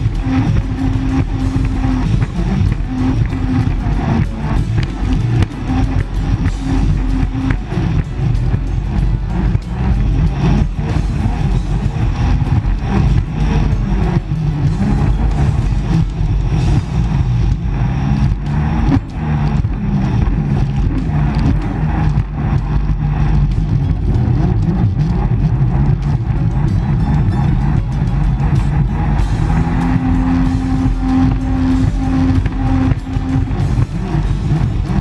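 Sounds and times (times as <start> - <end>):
engine running loudly: 0.0 - 35.0.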